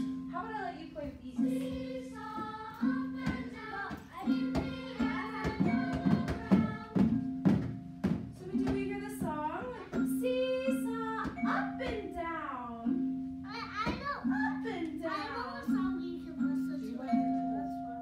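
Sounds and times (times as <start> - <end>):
children's song singing: 0.3 - 18.0.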